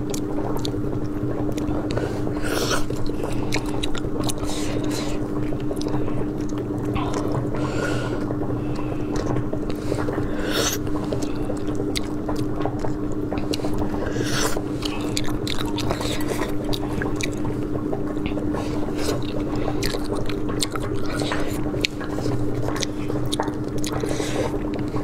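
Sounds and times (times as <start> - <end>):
chewing: 0.0 - 25.0
steady low hum: 0.0 - 25.0.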